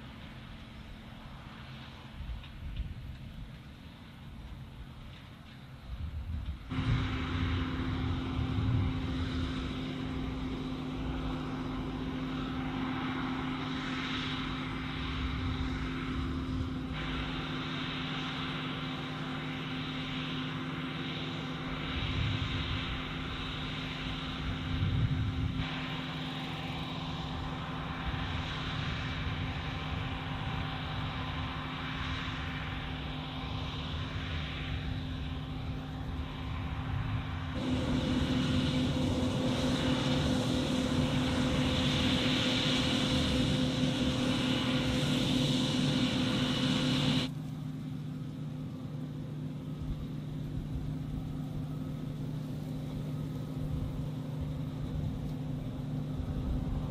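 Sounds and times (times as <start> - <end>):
combine harvester engine droning: 0.0 - 56.9.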